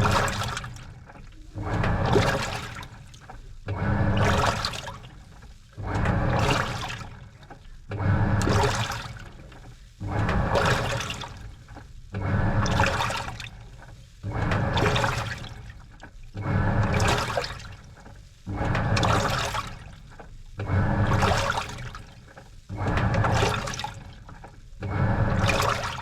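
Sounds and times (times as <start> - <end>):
washing machine agitating: 0.0 - 26.0.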